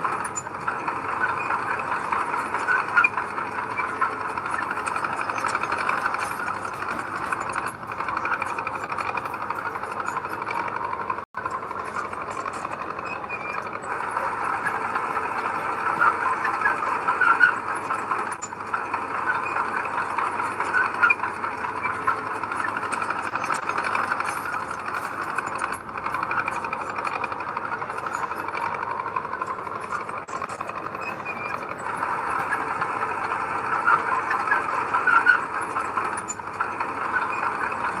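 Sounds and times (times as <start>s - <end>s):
heavy machinery diesel engine: 0.0s - 38.0s.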